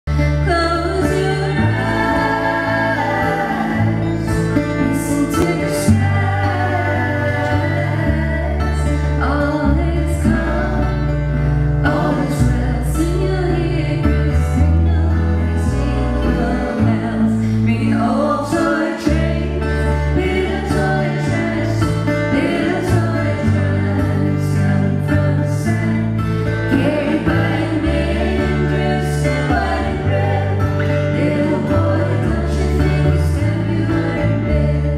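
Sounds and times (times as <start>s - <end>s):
low bass notes: 0.0s - 34.9s
instrumental backing: 0.1s - 34.9s
woman singing into a microphone: 0.1s - 34.9s.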